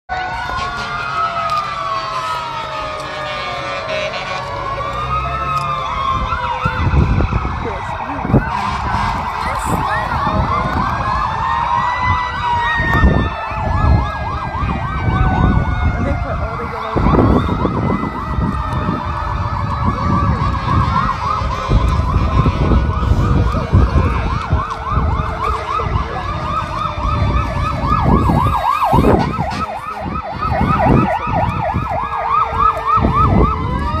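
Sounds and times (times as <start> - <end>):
siren rapid yelp: 0.1 - 34.0
siren slow wail: 0.1 - 34.0.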